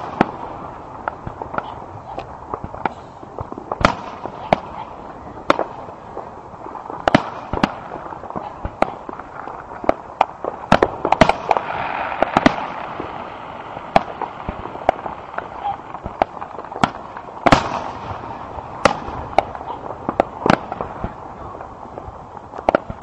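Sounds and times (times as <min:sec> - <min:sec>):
fireworks sharp bangs: 0:00.0 - 0:23.0.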